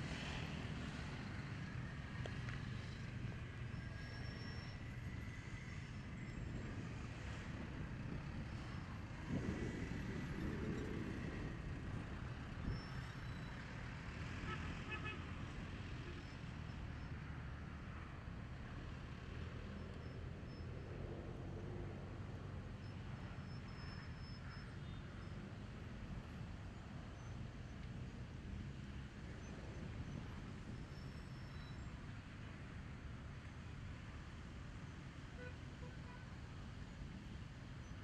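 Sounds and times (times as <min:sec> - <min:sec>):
distant road traffic rumble: 0:00.0 - 0:38.0.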